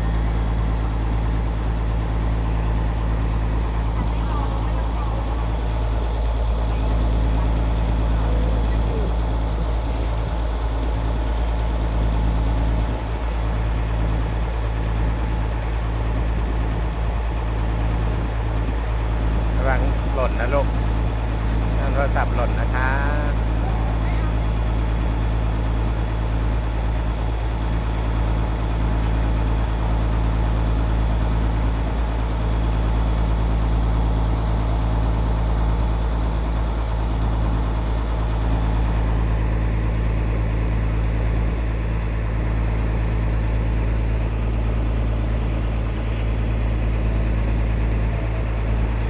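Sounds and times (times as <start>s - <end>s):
boat engine humming: 0.0s - 49.0s.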